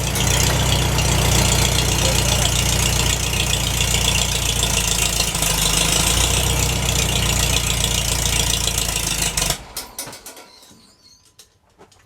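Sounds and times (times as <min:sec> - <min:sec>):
tractor engine running: 0:00.0 - 0:10.5.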